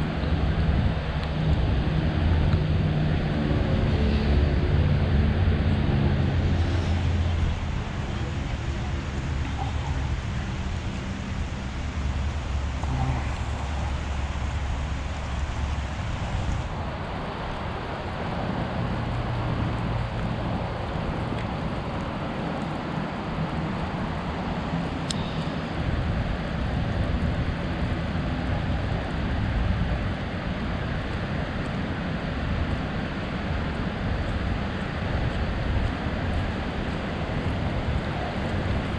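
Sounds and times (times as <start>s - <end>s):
traffic passing: 0.0s - 38.9s.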